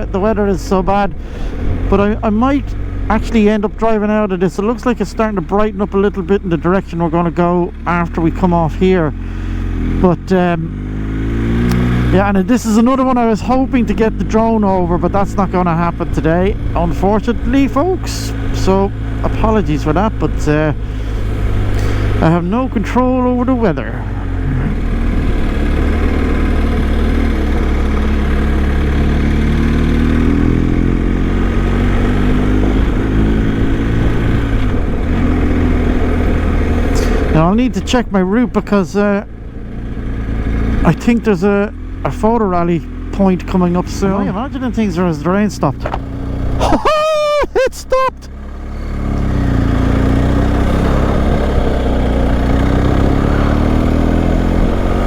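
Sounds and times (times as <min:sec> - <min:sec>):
motorcycle engine rumbling: 0:00.0 - 0:55.0
wind and road noise: 0:00.0 - 0:55.0.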